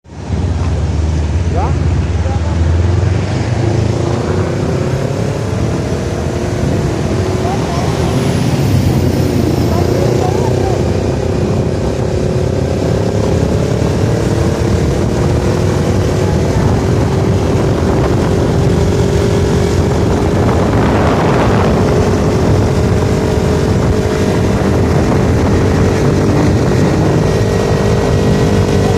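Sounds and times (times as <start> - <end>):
motorcycle engines cruising: 0.0 - 28.9
rushing riding noise: 0.1 - 28.9.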